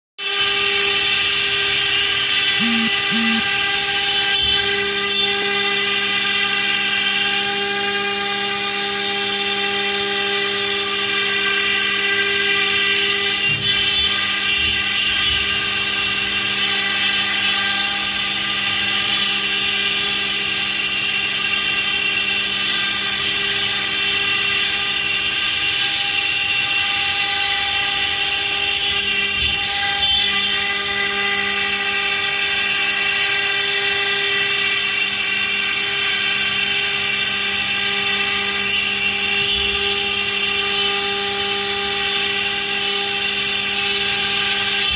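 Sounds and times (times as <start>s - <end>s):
router spindle high whine: 0.2s - 44.9s.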